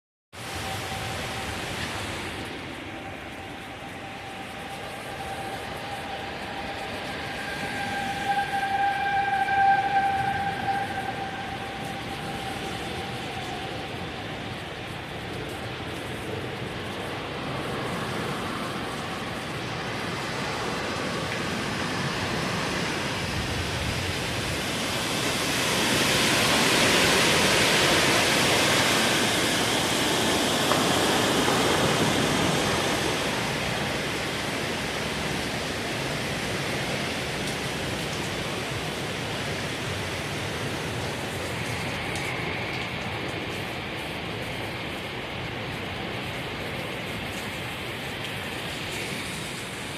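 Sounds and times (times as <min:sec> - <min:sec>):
heavy rain: 0:00.3 - 0:49.9.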